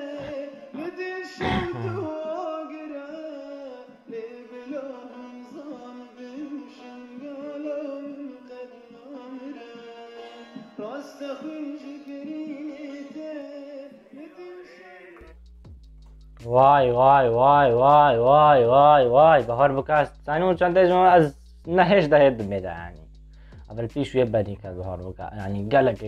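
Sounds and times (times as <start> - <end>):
man singing: 0.0 - 15.3, 16.4 - 22.9.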